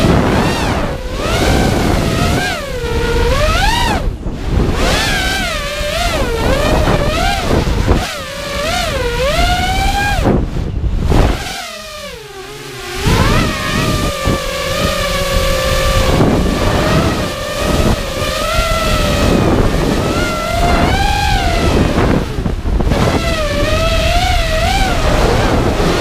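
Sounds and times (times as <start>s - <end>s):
drone motors whining: 0.0s - 26.0s
wind rushing past microphone: 0.0s - 26.0s.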